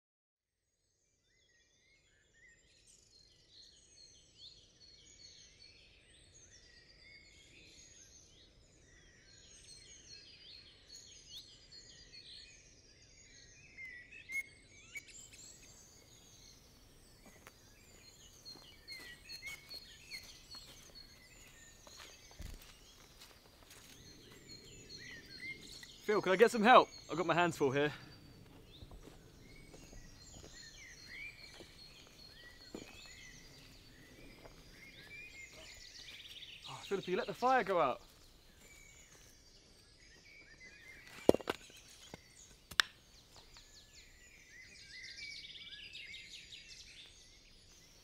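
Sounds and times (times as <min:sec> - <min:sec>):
birds singing and chirping: 0:01.4 - 0:48.0.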